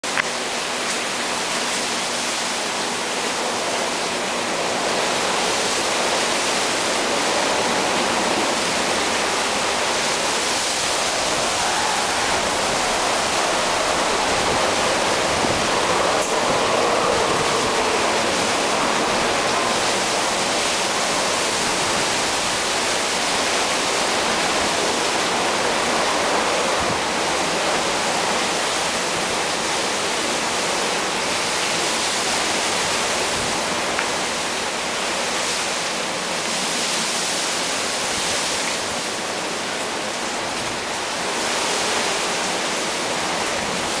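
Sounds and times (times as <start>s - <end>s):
heavy rain: 0.0s - 44.0s
wind gusting through trees: 0.0s - 44.0s.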